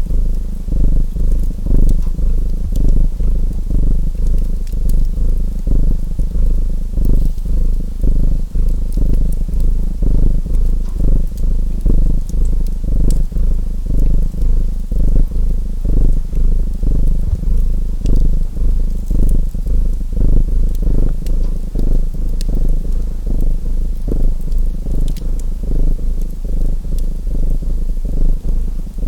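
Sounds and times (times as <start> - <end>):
cat purring: 0.0 - 29.0
fireplace crackles: 0.0 - 29.0.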